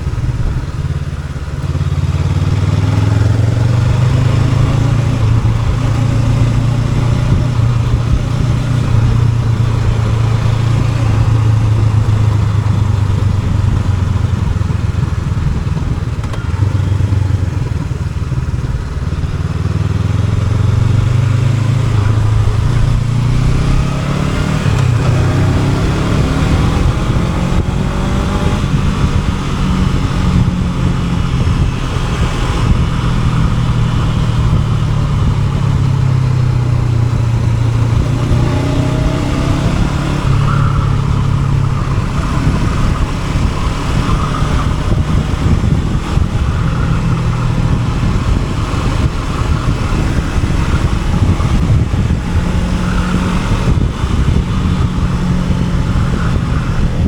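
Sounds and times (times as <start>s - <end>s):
motorcycle engine running: 0.0s - 57.0s
wind and road rush: 0.0s - 57.0s.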